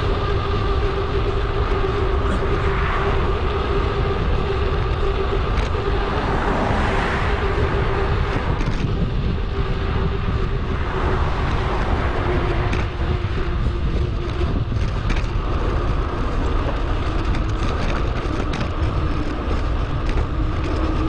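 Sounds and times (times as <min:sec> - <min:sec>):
bicycle road noise: 0:00.0 - 0:21.0
steady tone: 0:00.0 - 0:21.0
wind noise on microphone: 0:00.0 - 0:21.0.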